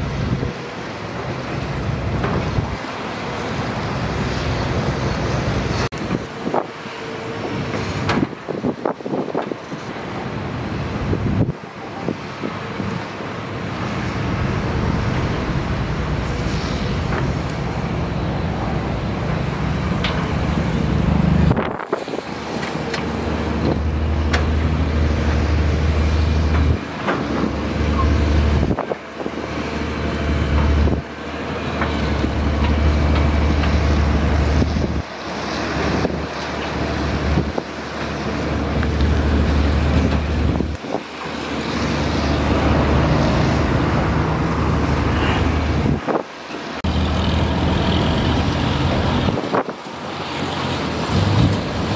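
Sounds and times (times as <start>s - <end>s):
wind noise on microphone: 0.0s - 3.0s, 3.6s - 51.9s
diesel engine running: 10.2s - 51.9s.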